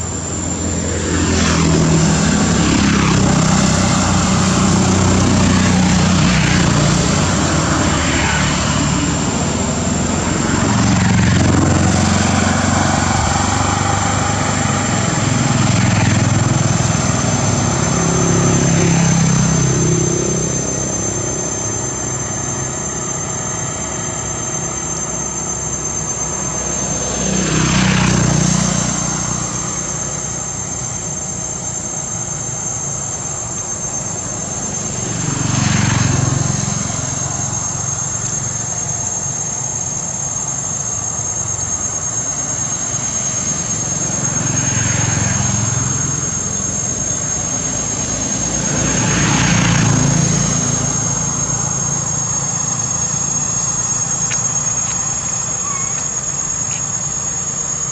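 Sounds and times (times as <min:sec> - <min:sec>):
steady low traffic rumble: 0:00.0 - 0:57.9
vehicles passing: 0:00.0 - 0:57.9.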